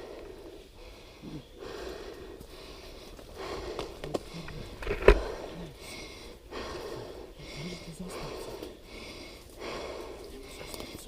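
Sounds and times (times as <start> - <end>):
heavy breathing: 0.0 - 11.0.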